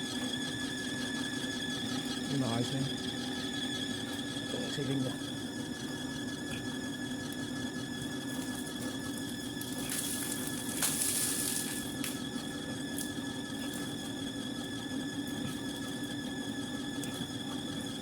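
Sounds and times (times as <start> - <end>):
high-pitched machine whine: 0.0 - 18.0.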